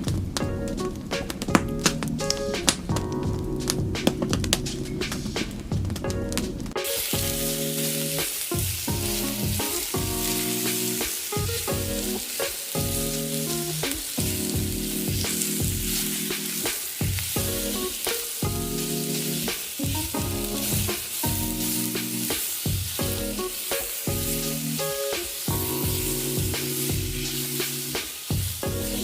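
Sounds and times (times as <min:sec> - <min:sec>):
background music of held chords: 0:00.0 - 0:29.0
food sizzling over campfire: 0:00.0 - 0:29.0.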